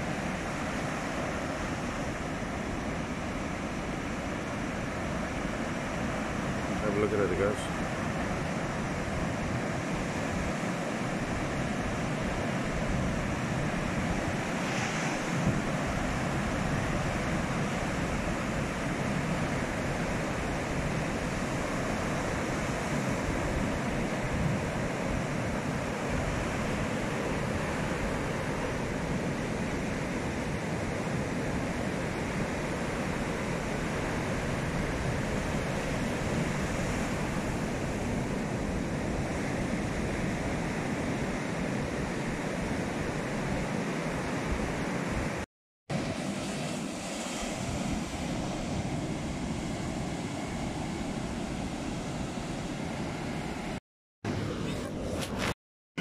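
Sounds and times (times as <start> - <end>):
heavy ocean surf: 0.0 - 55.6.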